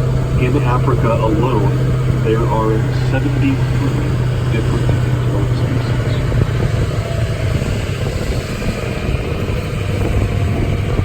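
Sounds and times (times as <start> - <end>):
tram engine humming: 0.0 - 11.0.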